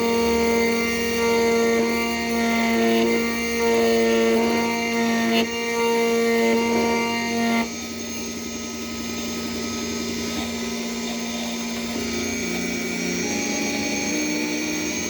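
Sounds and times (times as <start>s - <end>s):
key cutting machine whine: 0.0s - 15.0s.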